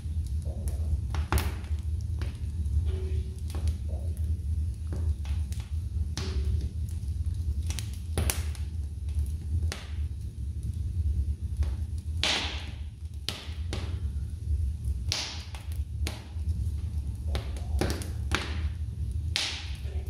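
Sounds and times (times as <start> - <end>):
fire hissing: 0.0 - 20.0
logs crackling and popping in fire: 0.0 - 20.0
low fire rumble: 0.0 - 20.0.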